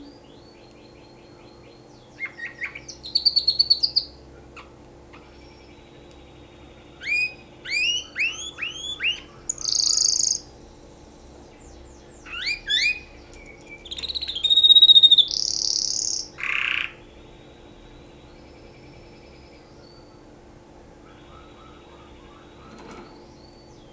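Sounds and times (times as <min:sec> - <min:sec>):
canary singing: 0:00.0 - 0:20.3, 0:21.0 - 0:23.9.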